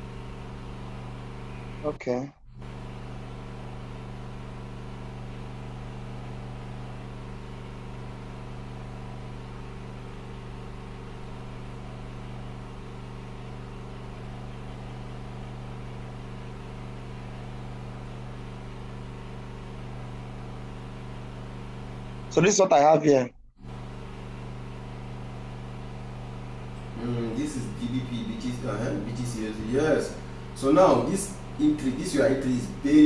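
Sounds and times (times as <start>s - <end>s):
low buzzy hum: 0.0s - 33.0s.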